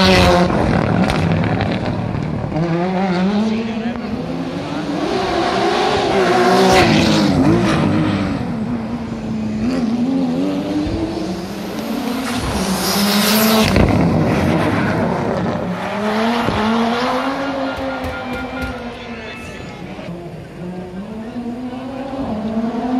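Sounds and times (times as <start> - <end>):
rally car engines revving: 0.0 - 22.9.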